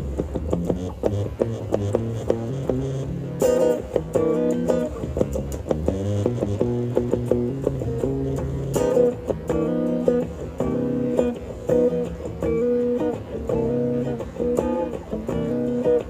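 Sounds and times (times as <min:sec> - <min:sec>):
plucked-string background music: 0:00.0 - 0:16.0.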